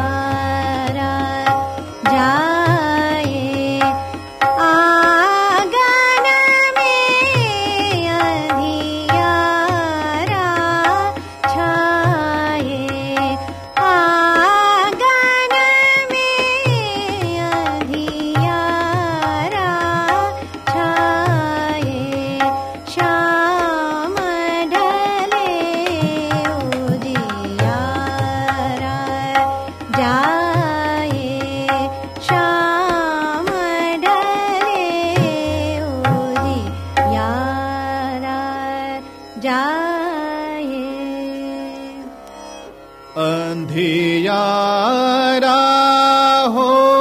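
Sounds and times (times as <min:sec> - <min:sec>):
tabla playing: 0:00.0 - 0:39.8
tanpura drone: 0:00.0 - 0:47.0
classical vocal melody: 0:04.5 - 0:42.2.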